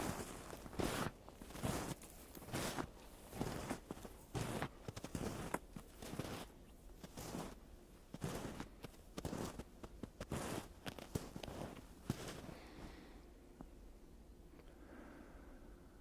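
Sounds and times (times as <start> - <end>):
footsteps crunching in snow: 0.0 - 13.0
faint hum: 0.0 - 16.0.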